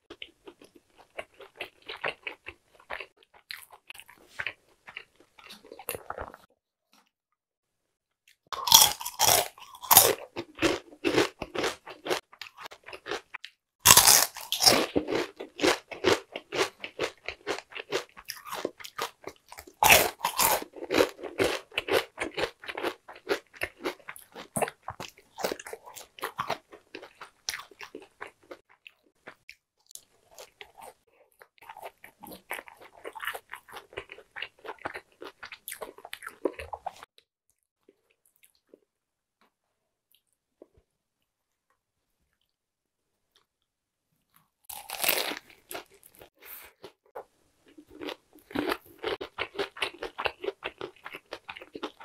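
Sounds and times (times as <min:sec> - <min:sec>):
crackly chewing: 0:00.0 - 0:07.1, 0:08.3 - 0:37.2, 0:44.2 - 0:52.0.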